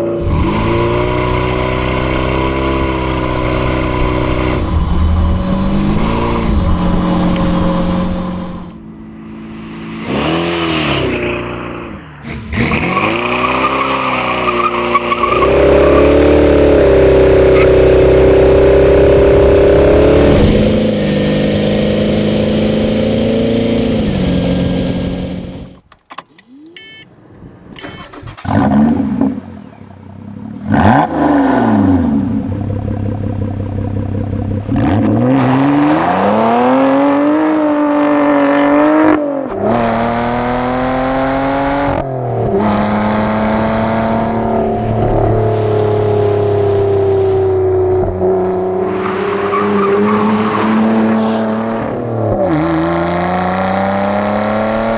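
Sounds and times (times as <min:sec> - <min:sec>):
car engines revving and idling: 0:00.0 - 0:54.9.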